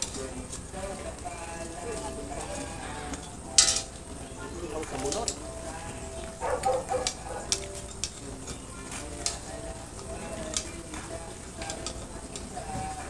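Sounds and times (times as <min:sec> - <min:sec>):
embers crackling: 0:00.0 - 0:13.0
fish sizzling on grill: 0:00.0 - 0:13.0.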